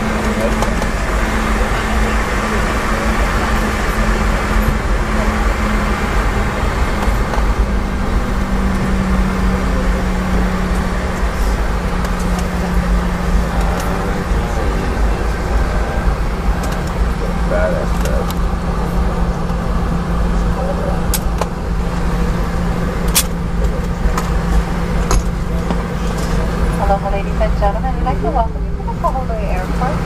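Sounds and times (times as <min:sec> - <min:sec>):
jet engines and airflow roar: 0:00.0 - 0:30.0
steady engine hum: 0:00.0 - 0:30.0.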